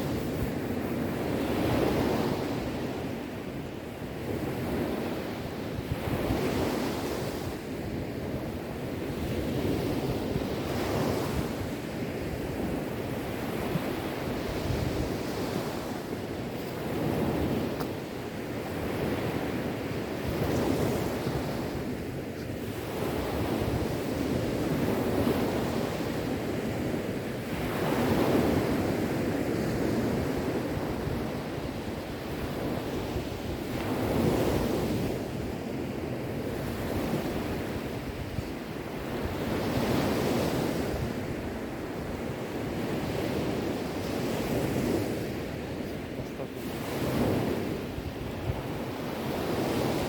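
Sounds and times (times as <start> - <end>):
sea waves washing on shore: 0.0 - 50.0.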